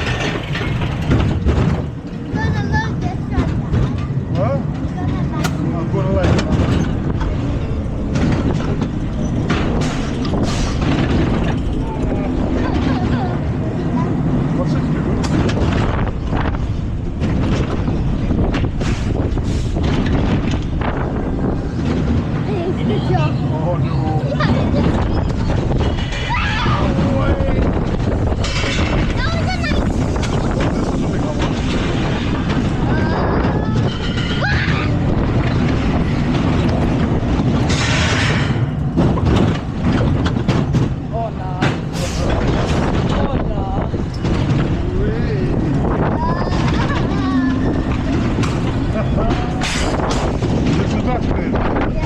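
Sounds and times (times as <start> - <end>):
sharp clatters and knocks: 0.0 - 23.0, 24.4 - 52.0
coaster car rumbling on track: 0.0 - 52.0
wind buffeting microphone: 0.0 - 52.0.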